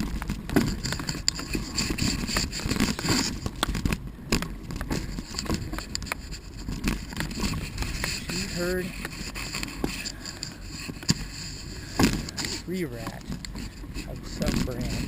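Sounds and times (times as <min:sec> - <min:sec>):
bike tyres scraping on dirt: 0:00.0 - 0:15.0.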